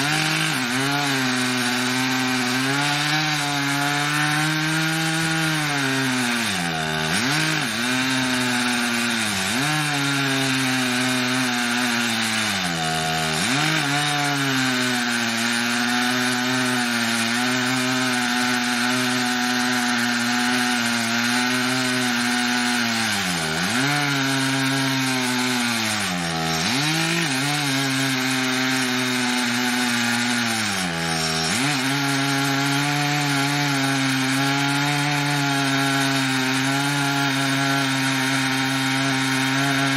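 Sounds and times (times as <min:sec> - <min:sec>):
chainsaw ripping log: 0:00.0 - 0:39.9.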